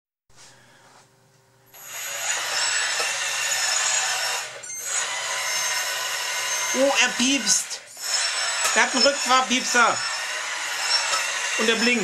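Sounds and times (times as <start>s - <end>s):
electric motors whirring: 1.7s - 12.0s.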